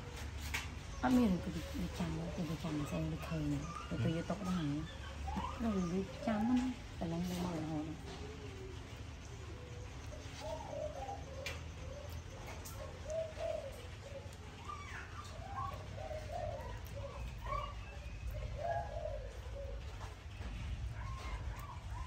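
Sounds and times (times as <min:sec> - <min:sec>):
birds cooing: 0:00.0 - 0:22.0.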